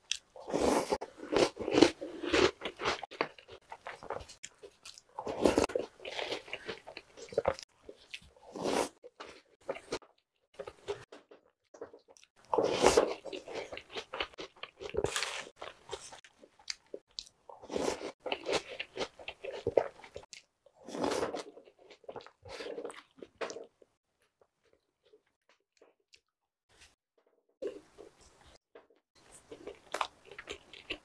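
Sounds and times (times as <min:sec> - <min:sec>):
crunching and chewing cereal: 0:00.0 - 0:25.4, 0:29.2 - 0:31.0.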